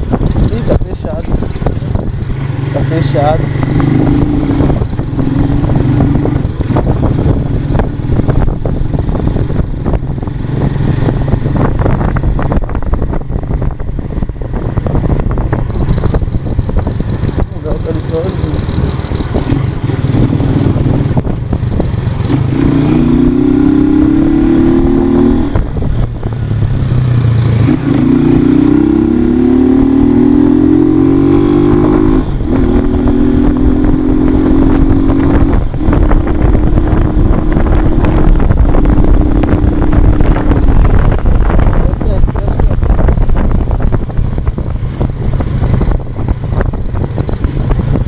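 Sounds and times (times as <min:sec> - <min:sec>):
low rumbling noise: 0:00.0 - 0:48.0
motorcycle engine shifting gears: 0:00.0 - 0:48.0.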